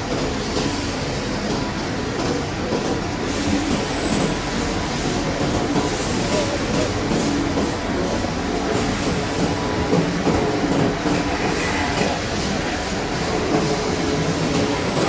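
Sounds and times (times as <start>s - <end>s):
machinery rumble and clatter: 0.0s - 15.0s.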